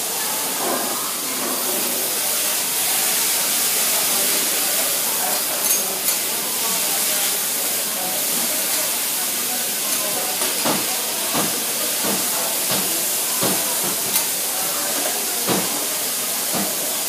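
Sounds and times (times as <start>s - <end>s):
bean sprouts sizzling on griddle: 0.0s - 17.0s.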